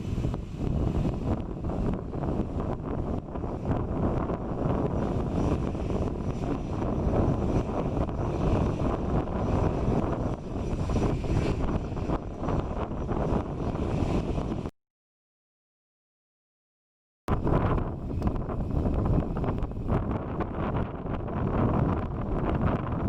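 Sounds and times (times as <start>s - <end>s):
jet engines at takeoff: 0.0s - 14.7s, 17.3s - 23.0s.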